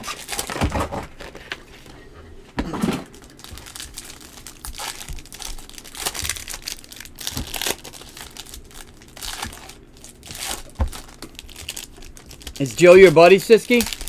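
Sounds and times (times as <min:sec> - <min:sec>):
plastic wrappers crinkling: 0:00.0 - 0:01.6, 0:03.1 - 0:14.0.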